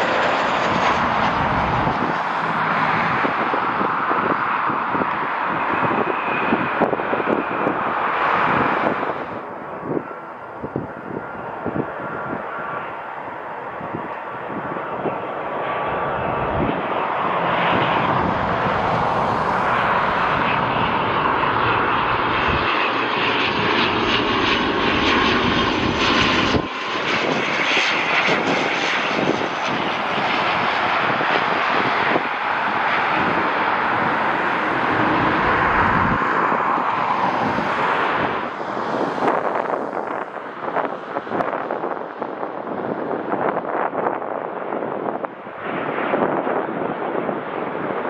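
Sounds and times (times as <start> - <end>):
aircraft engines: 0.0 - 48.0.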